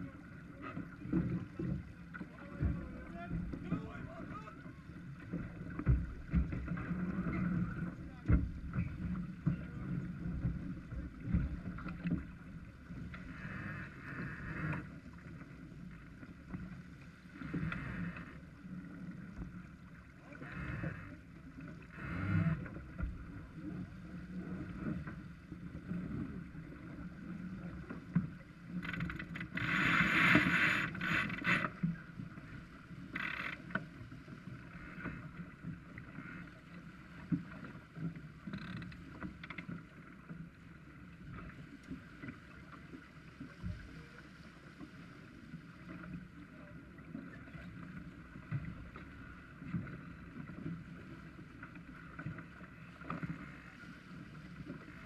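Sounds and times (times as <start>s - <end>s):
water rushing along hull: 0.0s - 55.0s.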